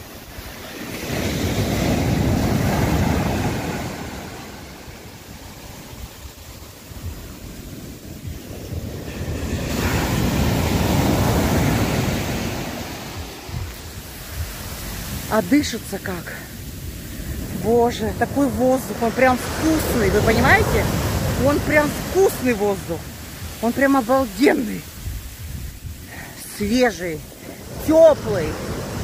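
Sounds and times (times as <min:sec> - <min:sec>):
sea waves washing onto shore: 0:00.0 - 0:29.0.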